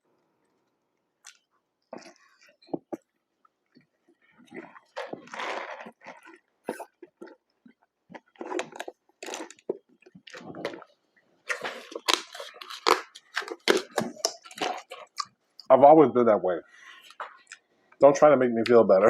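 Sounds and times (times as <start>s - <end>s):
chewing and crunching food: 0.0s - 15.7s, 16.9s - 18.0s.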